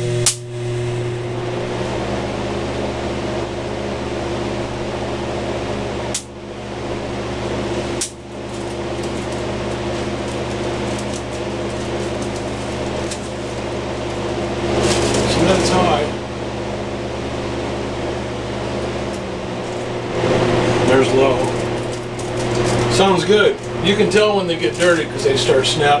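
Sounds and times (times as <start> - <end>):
air cleaner blower humming: 0.0 - 26.0.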